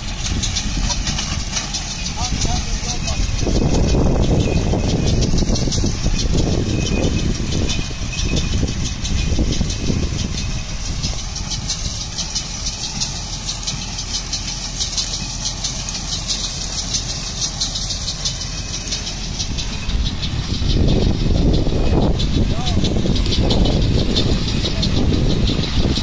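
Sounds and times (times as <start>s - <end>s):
baler mechanism clacking: 0.0s - 26.0s
tractor engine under load: 0.0s - 26.0s.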